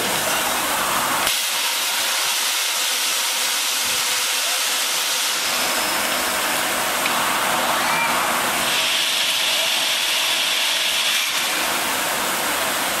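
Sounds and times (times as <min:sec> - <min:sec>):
loud air hiss: 0:00.0 - 0:13.0.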